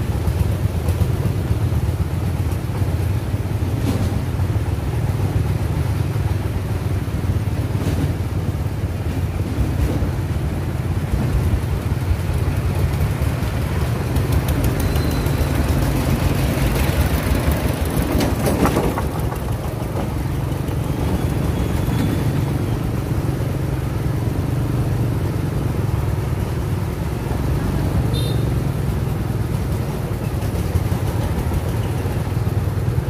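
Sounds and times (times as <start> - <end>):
diesel engine running low: 0.0 - 33.0
motorbike engines: 0.0 - 33.0.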